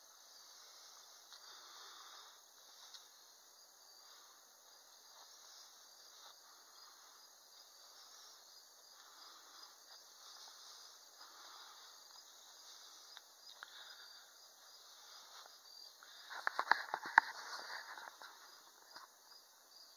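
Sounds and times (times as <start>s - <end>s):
insects chirping: 0.0s - 19.9s.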